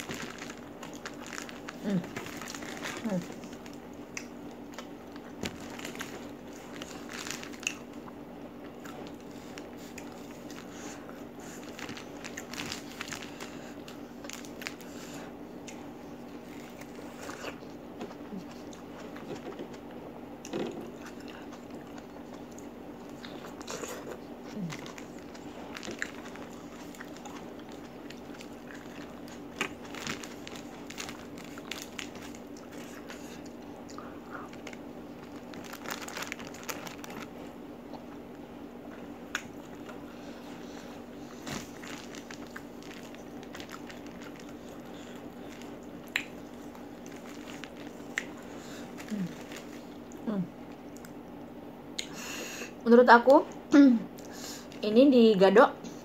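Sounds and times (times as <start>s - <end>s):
chewing and crunching food: 0.0s - 52.2s
steady low hum: 0.0s - 56.0s.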